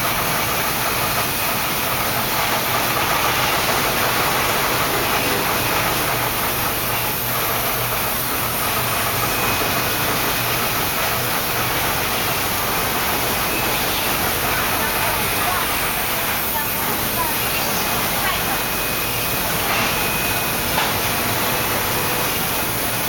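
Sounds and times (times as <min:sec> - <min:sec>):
factory machinery humming: 0:00.0 - 0:23.0.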